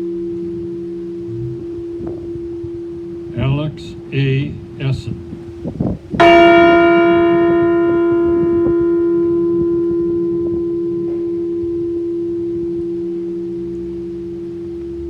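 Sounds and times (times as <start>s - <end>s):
large bell tolling: 0.0s - 15.0s.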